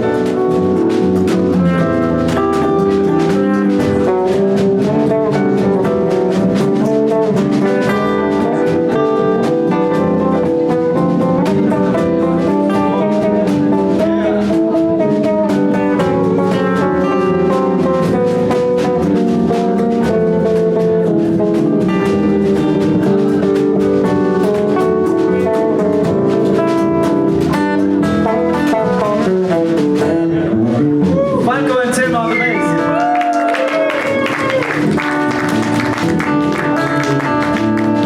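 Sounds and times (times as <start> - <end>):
drum kit beat: 0.0 - 38.0
electric guitar: 0.0 - 38.0.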